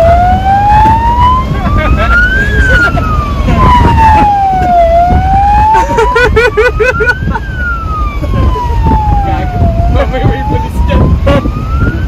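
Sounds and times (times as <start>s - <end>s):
police siren wailing: 0.0s - 12.0s.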